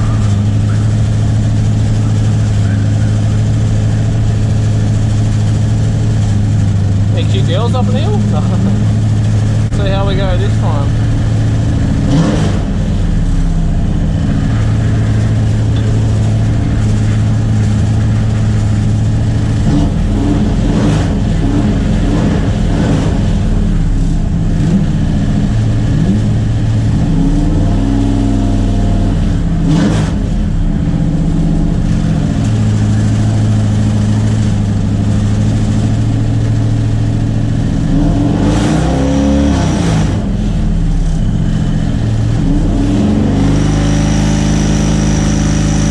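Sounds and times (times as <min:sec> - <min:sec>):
race car engine idling fast: 0:00.0 - 0:45.9.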